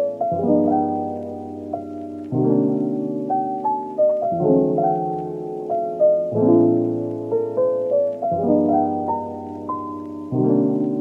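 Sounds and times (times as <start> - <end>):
background piano music: 0.0 - 11.0.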